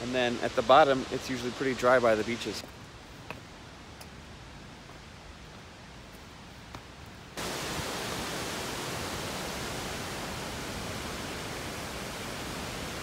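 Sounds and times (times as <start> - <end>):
rush of falling water: 0.0 - 6.5, 7.3 - 13.0.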